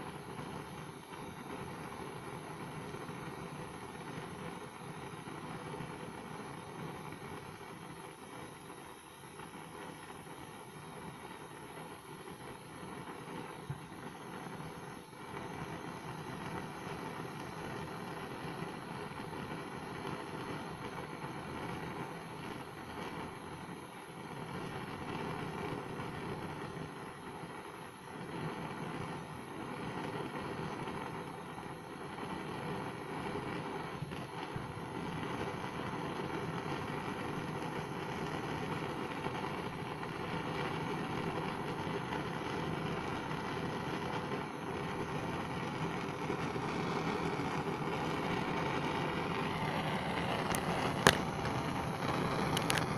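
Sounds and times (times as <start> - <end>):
blowtorch flame rushing: 0.0 - 52.9.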